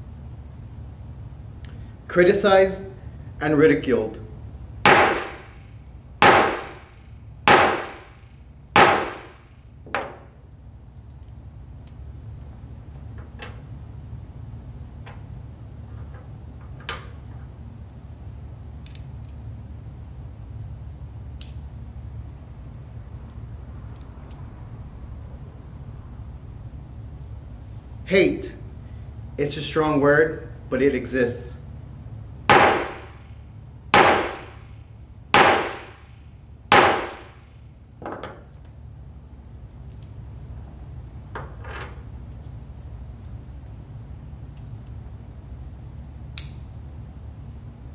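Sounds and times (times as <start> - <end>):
low room hum: 0.0 - 47.9.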